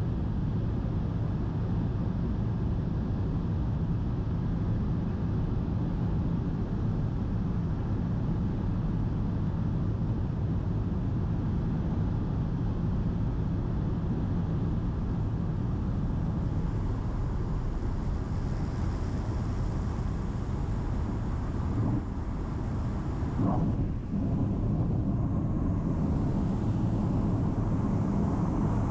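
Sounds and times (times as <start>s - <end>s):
propeller airplane cabin drone: 0.0s - 28.9s.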